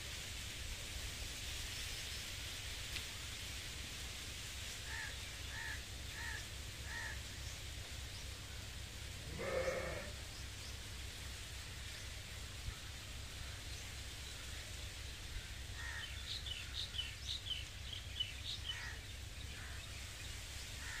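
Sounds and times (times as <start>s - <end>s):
wind rustling leaves and seed pods: 0.0s - 21.0s.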